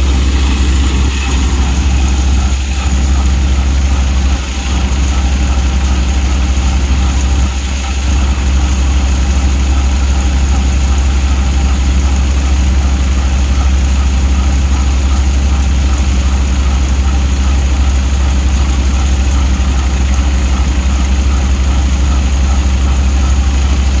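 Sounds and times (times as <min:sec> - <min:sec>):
thresher drum and fans whirring: 0:00.0 - 0:24.0
tractor engine under load: 0:00.0 - 0:24.0.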